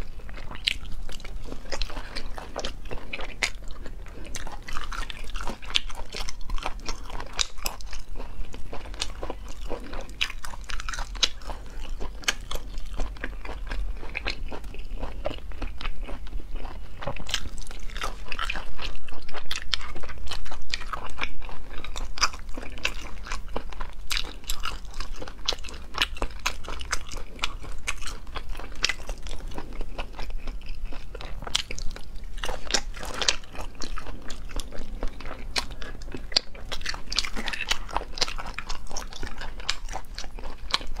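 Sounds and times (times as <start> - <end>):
wet chewing clicks: 0.0 - 41.0.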